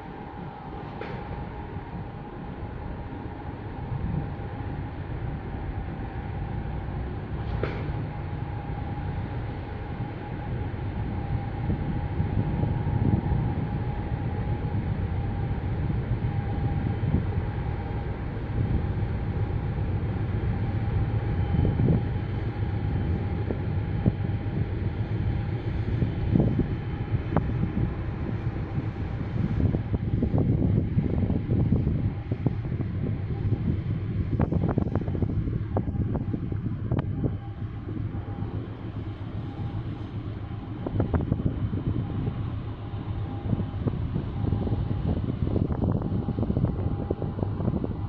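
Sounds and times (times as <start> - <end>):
faint steady hum: 0.0 - 48.0
ship engine low rumble: 0.0 - 48.0.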